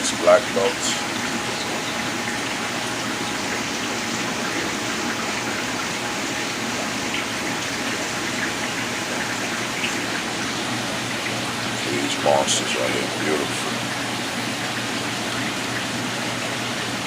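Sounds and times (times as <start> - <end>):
aquarium water running: 0.0 - 17.0.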